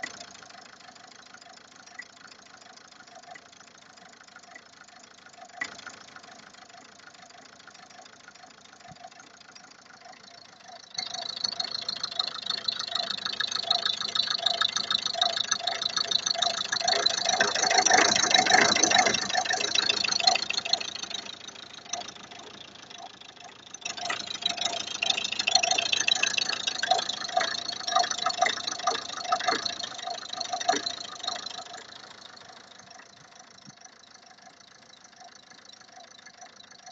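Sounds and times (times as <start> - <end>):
car engine idling and revving: 0.0 - 36.9
rapid engine knocking: 0.0 - 36.9.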